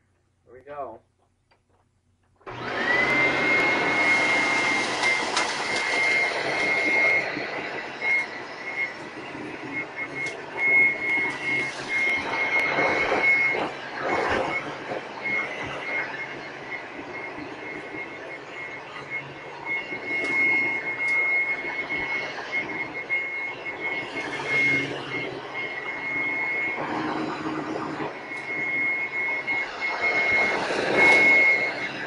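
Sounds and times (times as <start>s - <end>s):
vacuum motor whine: 2.4s - 32.0s.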